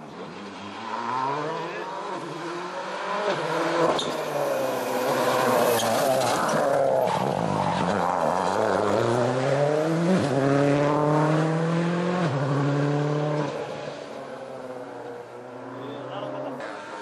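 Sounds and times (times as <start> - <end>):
rally car engine accelerating: 0.1 - 17.0.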